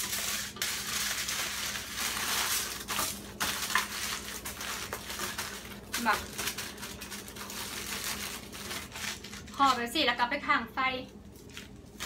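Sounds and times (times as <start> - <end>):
aluminium foil crinkling: 0.0 - 10.4, 11.2 - 12.0.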